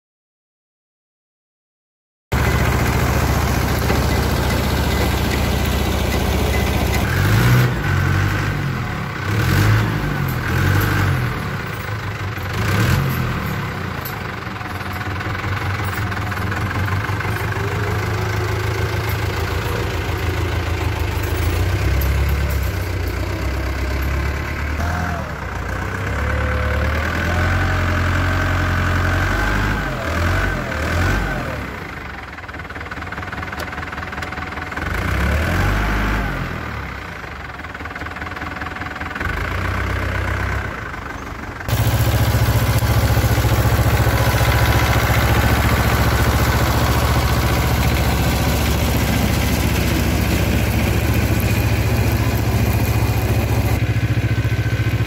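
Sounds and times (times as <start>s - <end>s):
tractor diesel engine running: 2.3s - 55.0s.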